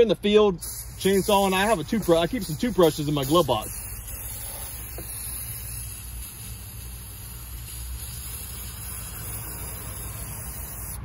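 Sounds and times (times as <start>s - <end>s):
aerosol can spraying: 0.6s - 11.0s.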